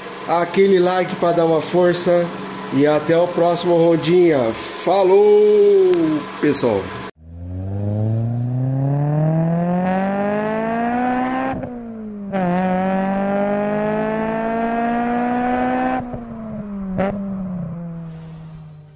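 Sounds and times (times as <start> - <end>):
car engine accelerating: 0.0 - 18.9.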